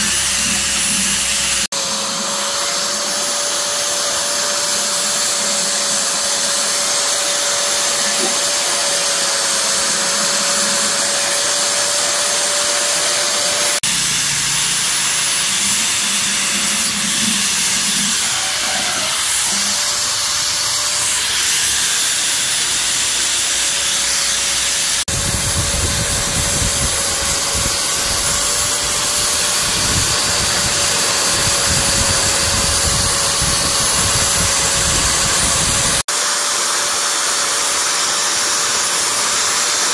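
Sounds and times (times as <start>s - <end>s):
motorised tool running: 0.0s - 39.9s.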